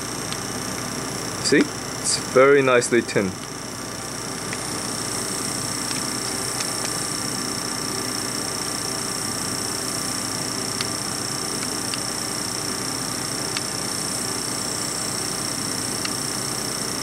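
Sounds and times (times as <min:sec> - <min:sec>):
fume extractor fan running: 0:00.0 - 0:17.0.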